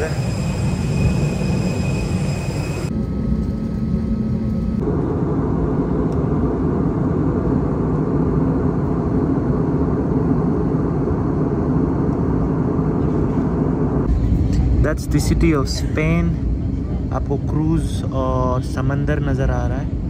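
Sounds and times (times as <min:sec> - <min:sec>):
airliner cabin engine roar: 0:00.0 - 0:20.0.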